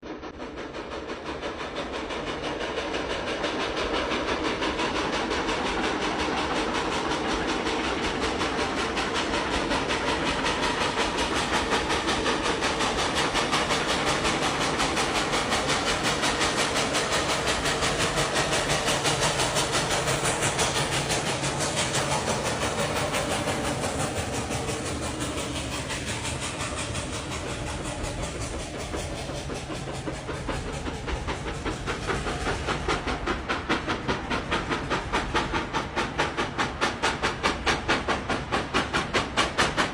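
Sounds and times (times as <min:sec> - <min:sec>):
train running on track: 0:00.0 - 0:39.9.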